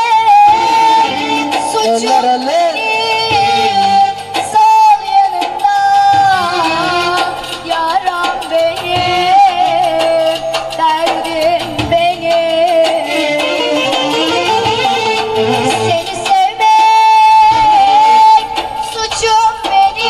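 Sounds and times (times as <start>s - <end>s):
instrumental accompaniment: 0.0s - 20.0s
person singing wavering melody: 0.0s - 20.0s.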